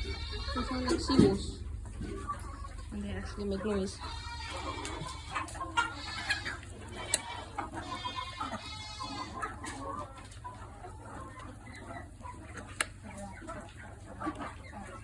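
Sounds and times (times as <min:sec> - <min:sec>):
young turkeys calling: 0:00.0 - 0:15.0.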